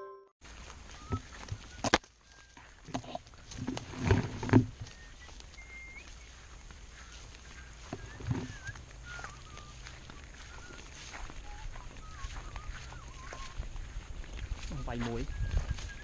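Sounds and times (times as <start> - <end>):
birds chirping: 0.5 - 16.0.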